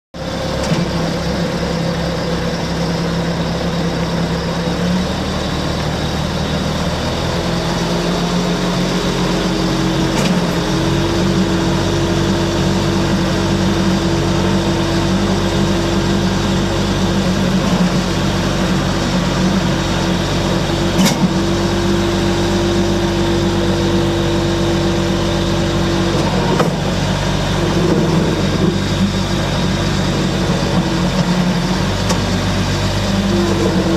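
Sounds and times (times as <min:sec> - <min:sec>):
diesel engine running: 0:00.2 - 0:33.9.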